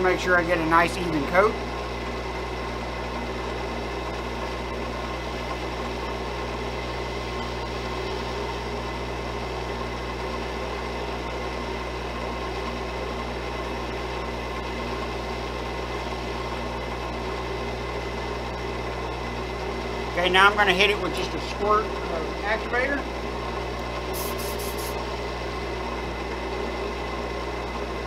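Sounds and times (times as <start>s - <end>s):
wood lathe motor humming: 0.0s - 28.0s.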